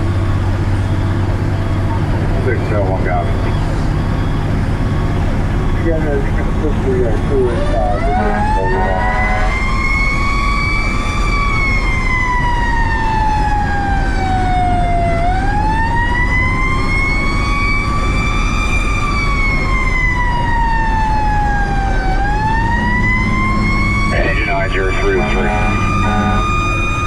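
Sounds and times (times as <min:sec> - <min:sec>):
fire truck siren wailing: 0:00.0 - 0:27.0
truck engine and road noise: 0:00.0 - 0:27.0.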